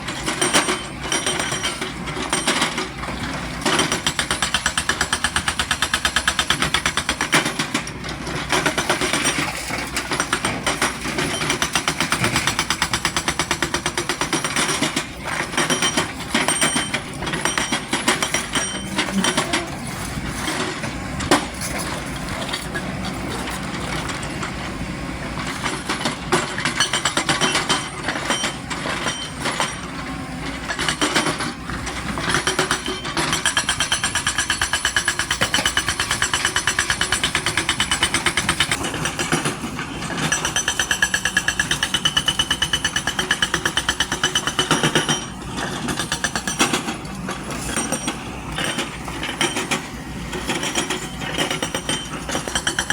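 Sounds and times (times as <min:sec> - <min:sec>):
excavator engine rattling: 0:00.0 - 0:52.9.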